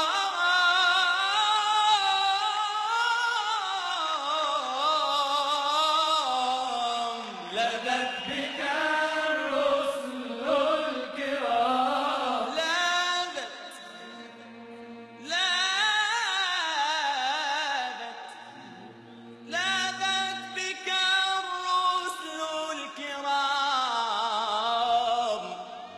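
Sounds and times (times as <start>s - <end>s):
man singing melismatic chant: 0.0s - 25.9s.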